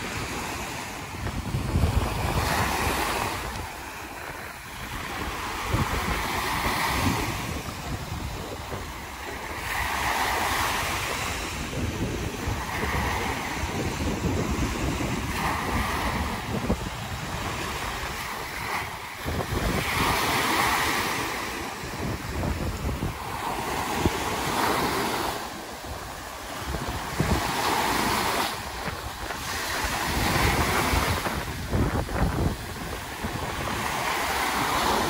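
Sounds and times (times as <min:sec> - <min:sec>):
waves washing up beach: 0:00.0 - 0:35.0
wind buffeting microphone: 0:00.0 - 0:35.0.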